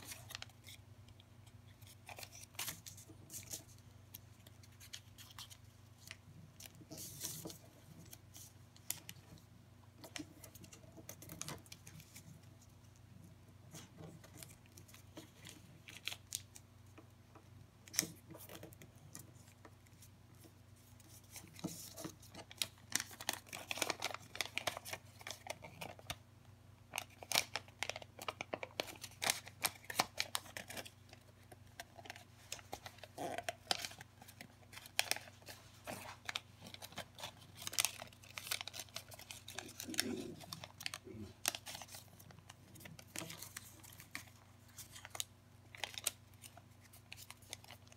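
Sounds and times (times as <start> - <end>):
paper crinkling: 0.0 - 13.0, 13.7 - 16.6, 17.8 - 26.2, 26.9 - 47.9.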